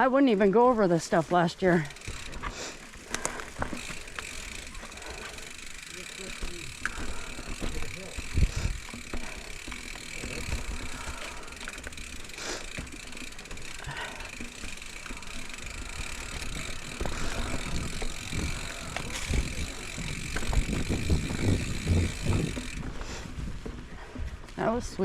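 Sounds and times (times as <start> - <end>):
mountain bike rattling and knocking: 1.3 - 24.8
tyre noise: 1.8 - 24.1.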